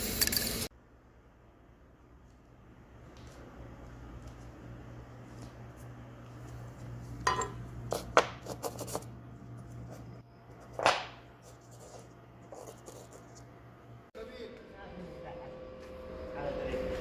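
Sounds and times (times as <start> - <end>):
low steady hum: 0.7 - 17.0.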